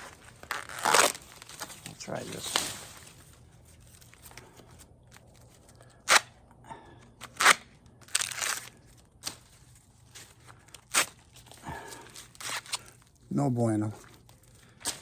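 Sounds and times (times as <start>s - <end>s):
corn husks tearing rustle: 0.0s - 6.2s, 7.2s - 15.0s
corn husks cracking: 0.0s - 6.4s, 7.2s - 13.2s, 14.0s - 15.0s.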